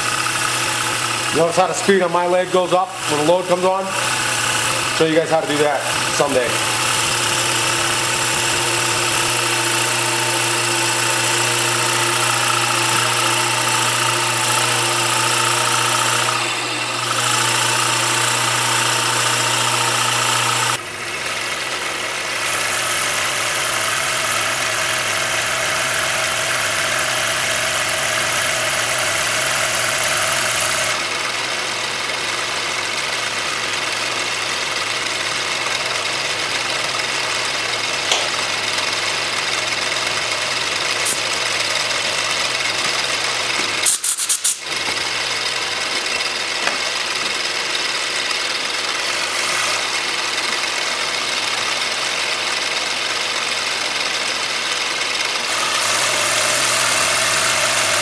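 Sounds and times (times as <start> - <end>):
lathe and grinder whine: 0.0 - 43.9, 44.6 - 58.0.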